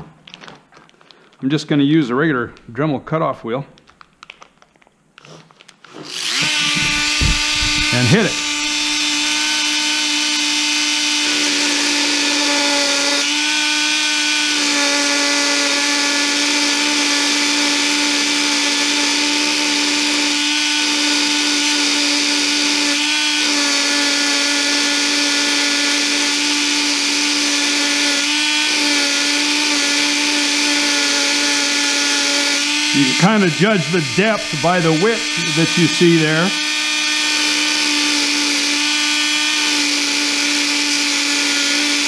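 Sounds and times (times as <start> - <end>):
rotary tool grinding metal: 5.2 - 42.0.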